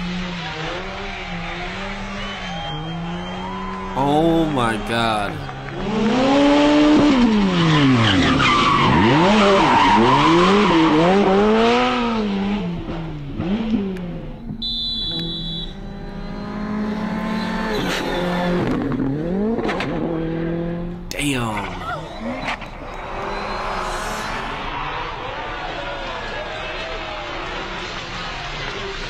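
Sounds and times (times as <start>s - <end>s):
rally car engines revving past: 0.0s - 3.9s, 5.4s - 21.1s, 21.9s - 29.0s.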